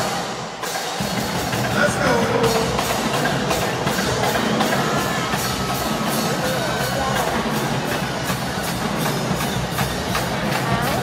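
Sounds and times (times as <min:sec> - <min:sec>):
crowd voices: 0:00.0 - 0:11.0
drumline playing cadence: 0:00.0 - 0:11.0.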